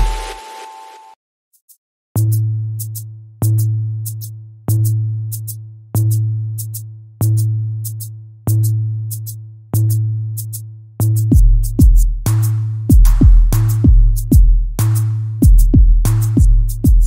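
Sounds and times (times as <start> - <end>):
music with deep bass beat: 2.2 - 17.0.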